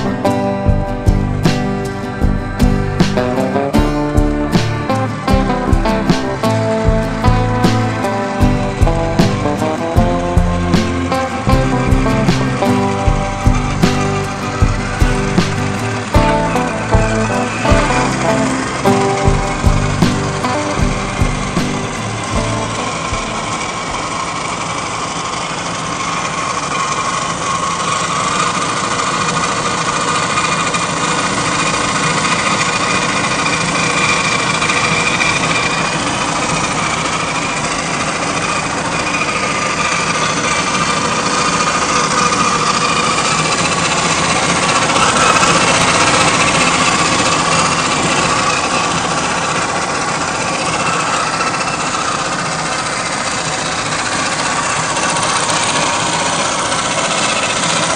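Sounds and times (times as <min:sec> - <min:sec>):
electric motor and gear whine: 0:00.0 - 0:57.9.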